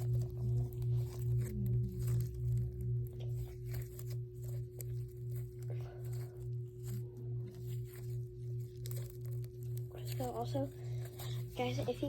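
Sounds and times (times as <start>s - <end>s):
throbbing low hum: 0.0s - 12.0s.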